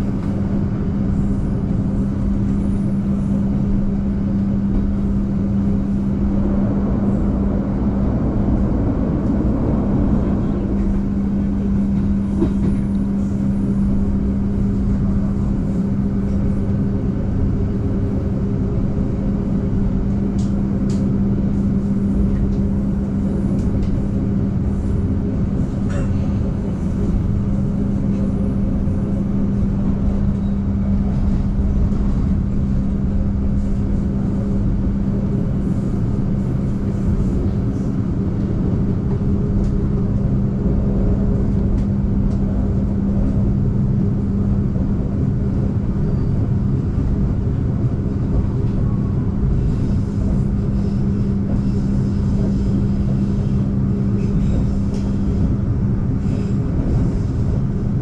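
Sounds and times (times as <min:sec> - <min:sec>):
train rumble from inside car: 0:00.0 - 0:58.0.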